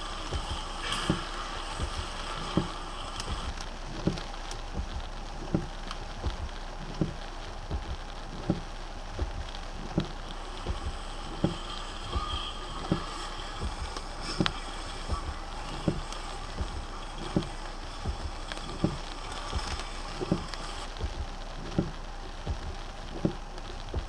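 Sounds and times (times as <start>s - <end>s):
low thumps: 0.0s - 24.0s
rain on car windshield: 0.0s - 24.0s.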